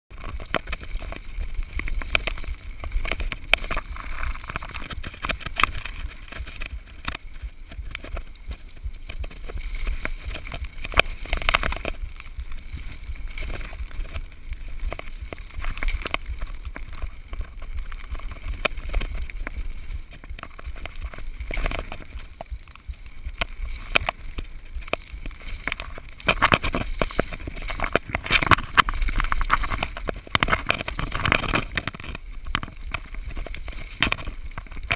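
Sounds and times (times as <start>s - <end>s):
bike rattling and knocking: 0.1s - 34.9s
tyres rolling over dirt and stones: 0.1s - 34.9s
wind rumble on microphone: 0.1s - 34.9s.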